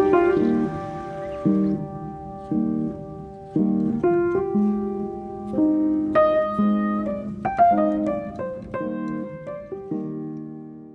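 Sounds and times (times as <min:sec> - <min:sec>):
piano music: 0:00.0 - 0:10.9.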